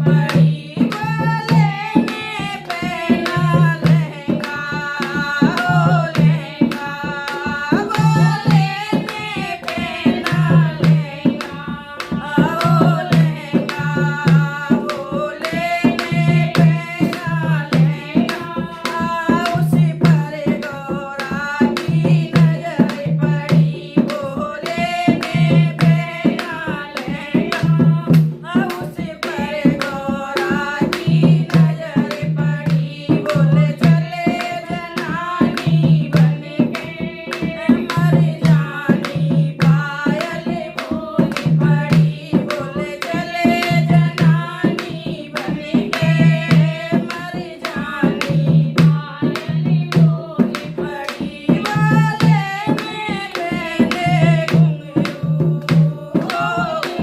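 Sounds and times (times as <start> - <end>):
hand drum rhythm: 0.0 - 57.0
person singing devotional song: 0.0 - 57.0.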